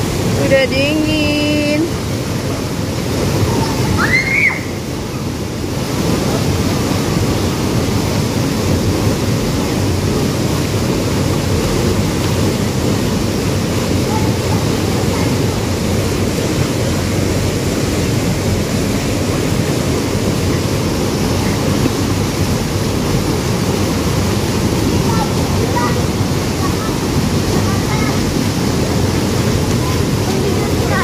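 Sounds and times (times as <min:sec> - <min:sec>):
waterfall and rapids roaring: 0:00.0 - 0:31.0.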